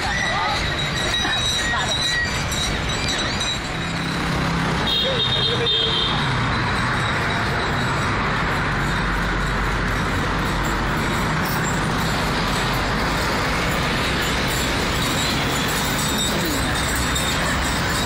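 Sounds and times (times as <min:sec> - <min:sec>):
road traffic rush: 0:00.0 - 0:18.0.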